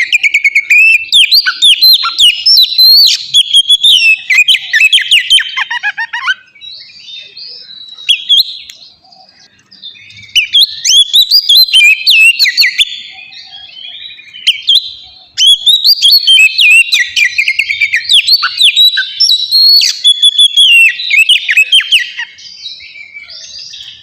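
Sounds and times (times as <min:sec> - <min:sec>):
bird singing whistles and chatter: 0:00.0 - 0:24.0.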